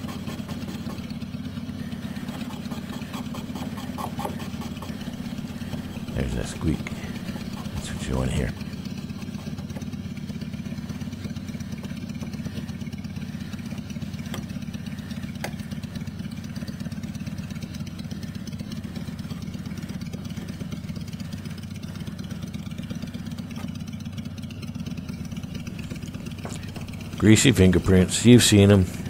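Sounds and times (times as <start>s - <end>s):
engine running with low rumble: 0.0s - 29.0s.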